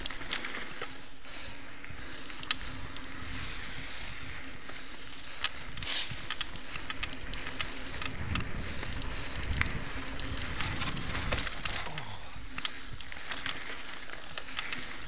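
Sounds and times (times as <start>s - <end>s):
bike clicks and rattles: 0.0s - 15.0s
bike tyres rushing over dirt: 0.0s - 15.0s.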